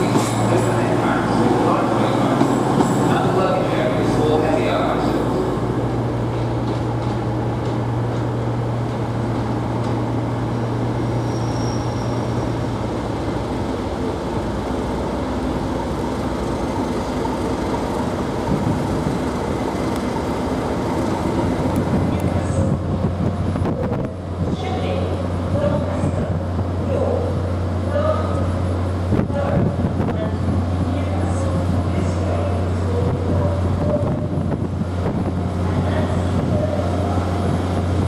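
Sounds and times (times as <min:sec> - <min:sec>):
diesel locomotive engine drone: 0:00.0 - 0:38.0
train rolling noise: 0:00.0 - 0:38.0.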